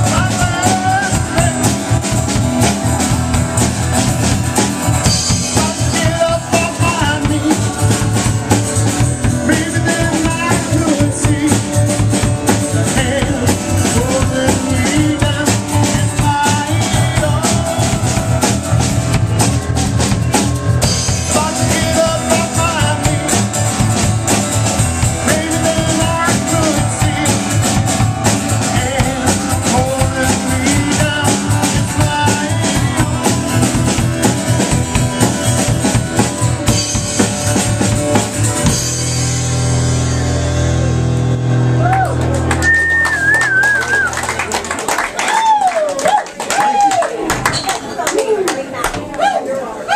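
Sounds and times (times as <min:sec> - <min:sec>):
live band playing: 0:00.0 - 0:49.9.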